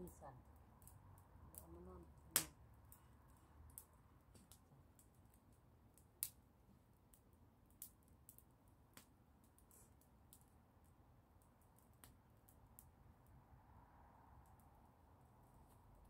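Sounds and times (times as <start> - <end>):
sharp pops from fire: 0.0 - 13.0
wood fire crackling: 0.0 - 16.0.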